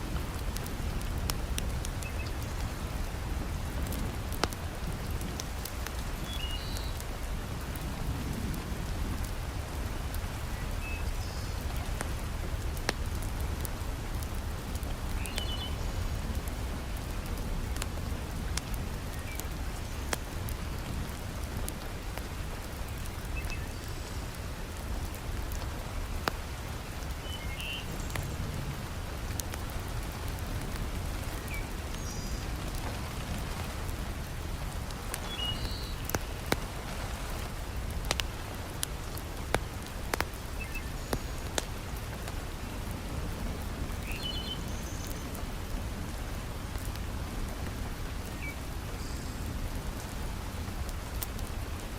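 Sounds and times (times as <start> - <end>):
heavy rain falling: 0.0 - 51.9
wood fire crackling: 0.0 - 51.9.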